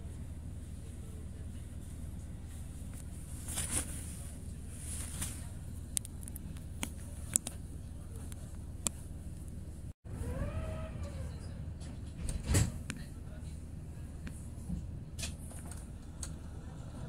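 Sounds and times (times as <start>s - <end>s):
tram running rumble: 0.0s - 17.0s.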